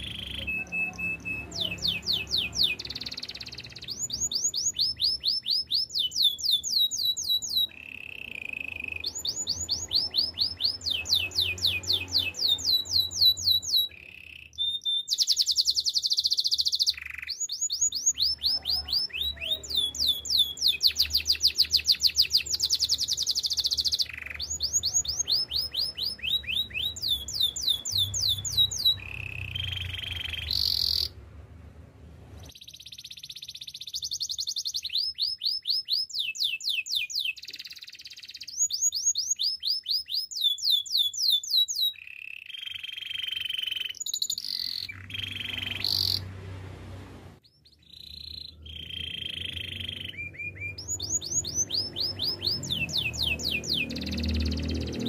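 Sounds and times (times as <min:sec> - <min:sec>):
canary singing trills: 0:00.0 - 0:31.2, 0:32.4 - 0:46.4, 0:47.4 - 0:55.0.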